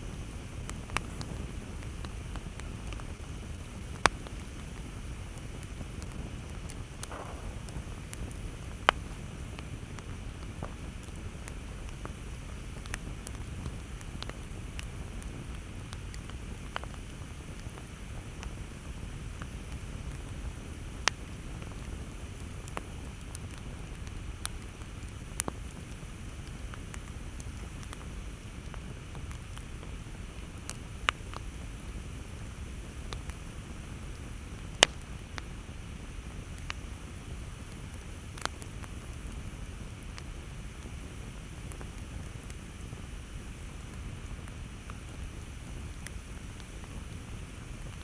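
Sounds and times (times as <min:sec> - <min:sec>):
burning wood crackling and popping: 0:00.0 - 0:48.0
campfire low rumble: 0:00.0 - 0:48.0.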